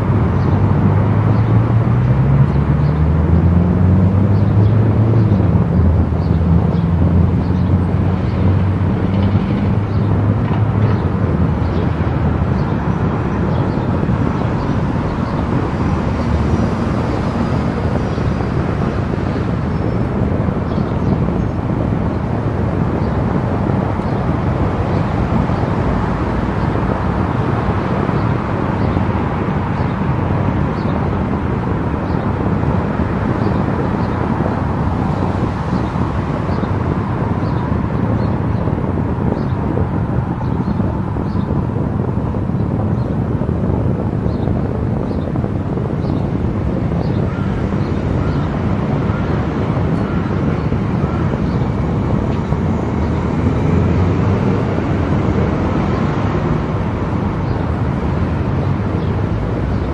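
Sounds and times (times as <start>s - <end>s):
low engine hum: 0.0s - 59.9s
tyre and road noise: 0.0s - 59.9s.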